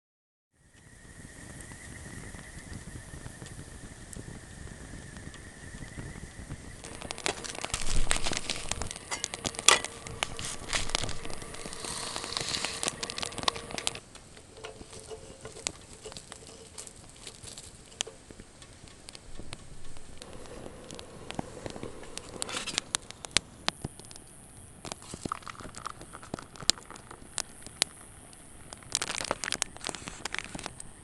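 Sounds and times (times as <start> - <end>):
wood fire crackling and popping: 0.7 - 31.0.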